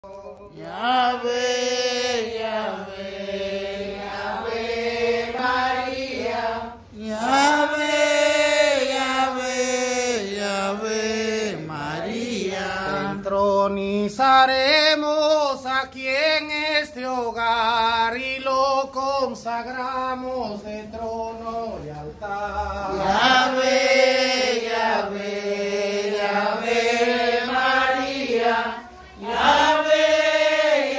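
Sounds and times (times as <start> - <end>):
person singing slow hymn: 0.0 - 30.9.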